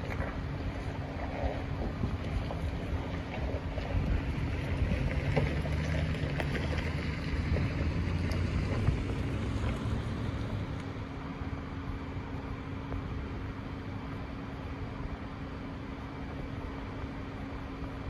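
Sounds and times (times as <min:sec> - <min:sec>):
wind rumble on microphone: 0:00.0 - 0:15.1
low engine drone: 0:00.0 - 0:18.0.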